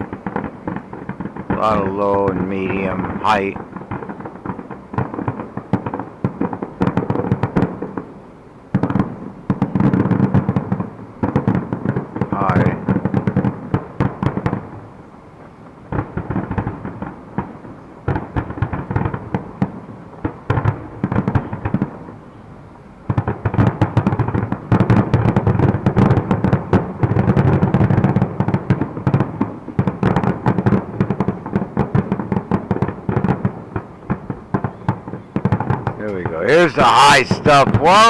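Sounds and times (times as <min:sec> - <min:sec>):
fireworks cracks and booms: 0:00.0 - 0:22.4, 0:23.0 - 0:38.0.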